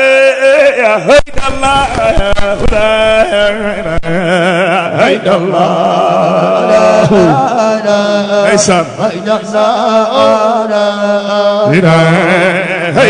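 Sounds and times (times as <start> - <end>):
man chanting through microphone: 0.0 - 13.0.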